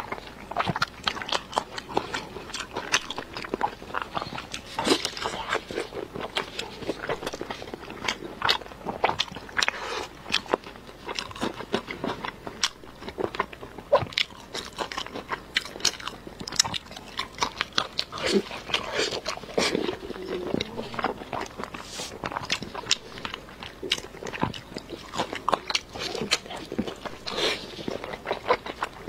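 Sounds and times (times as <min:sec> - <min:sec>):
person chewing meat: 0:00.0 - 0:29.0.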